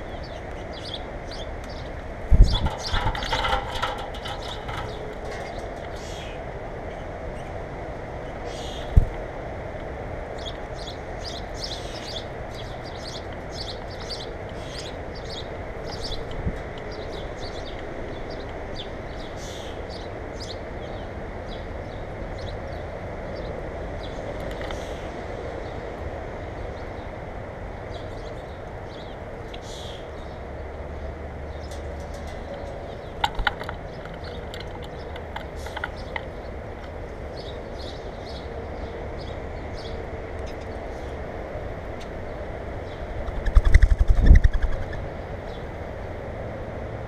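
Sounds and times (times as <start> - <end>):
birds chirping: 0.0 - 9.3, 10.2 - 27.2, 27.8 - 46.1.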